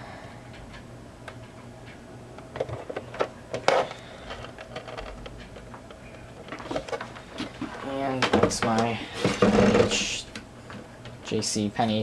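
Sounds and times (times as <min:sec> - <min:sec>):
plastic fan handling clicks and knocks: 0:00.5 - 0:11.2.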